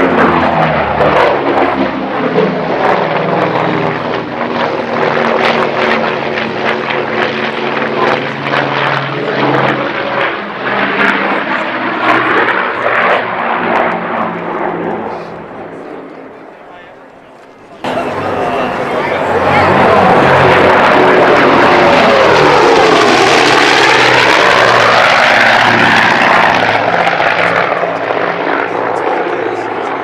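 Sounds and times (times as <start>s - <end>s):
propeller aircraft engines roaring: 0.0s - 30.0s.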